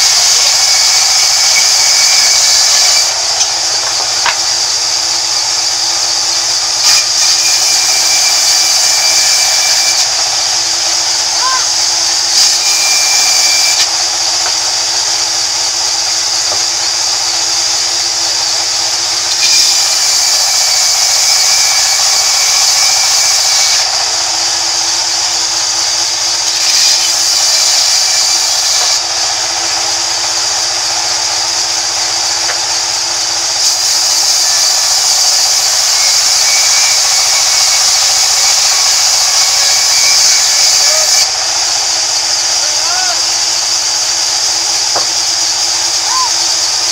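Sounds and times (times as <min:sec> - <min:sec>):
band saw cutting wood hiss: 0:00.0 - 0:46.9.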